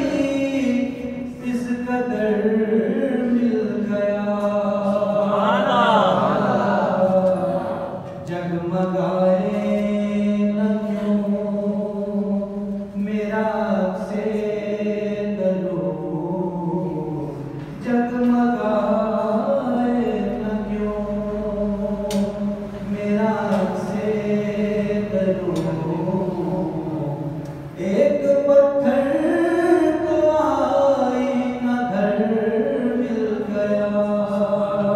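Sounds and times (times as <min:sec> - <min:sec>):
man singing into a microphone: 0:00.0 - 0:34.9.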